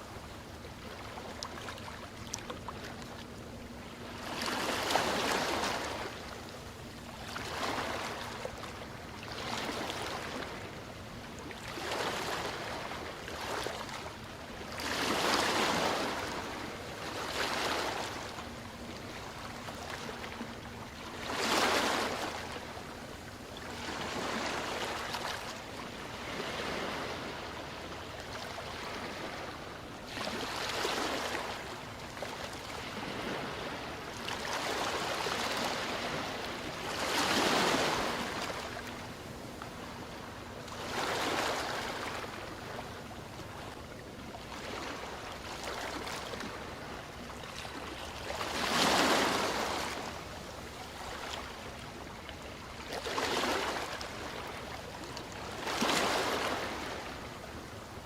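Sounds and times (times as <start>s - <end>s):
ocean waves breaking: 0.2s - 6.6s, 7.2s - 23.0s, 23.6s - 43.7s, 44.4s - 58.0s.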